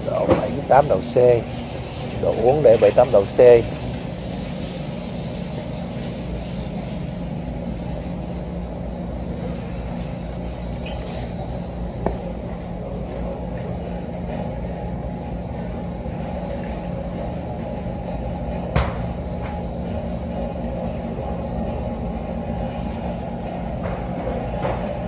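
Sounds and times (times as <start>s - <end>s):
store background hum: 0.0s - 25.0s.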